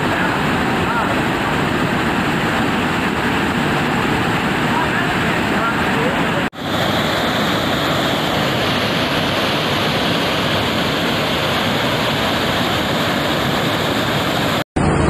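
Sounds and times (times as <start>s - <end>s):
floodwater rushing: 0.0s - 14.6s.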